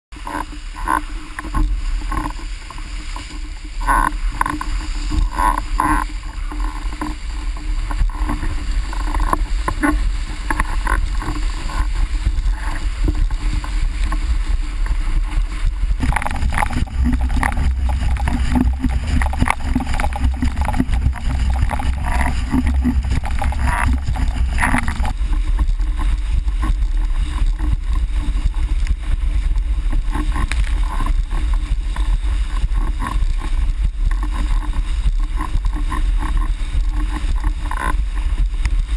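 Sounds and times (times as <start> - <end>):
water rushing and splashing: 0.1 - 38.9
wind buffeting microphone: 0.2 - 38.9.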